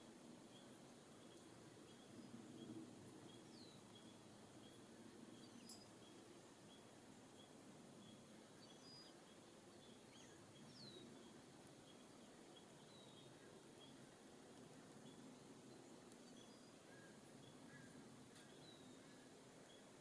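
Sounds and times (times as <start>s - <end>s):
distant small birds chirping: 0.0s - 20.0s.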